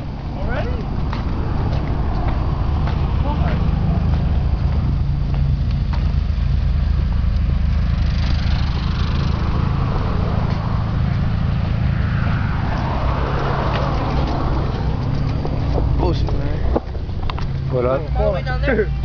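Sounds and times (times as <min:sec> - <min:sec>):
car engines idling: 0:00.0 - 0:19.0.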